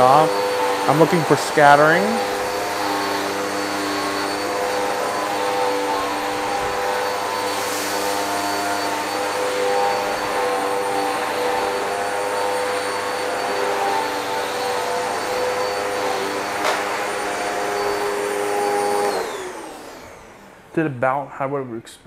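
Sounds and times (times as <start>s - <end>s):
vacuum cleaner running on tile: 0.0s - 20.7s.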